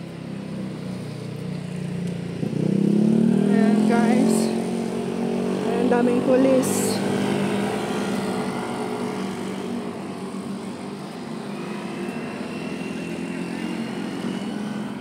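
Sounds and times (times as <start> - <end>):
motor scooter passing: 0.0 - 15.0
traffic hum: 0.0 - 15.0.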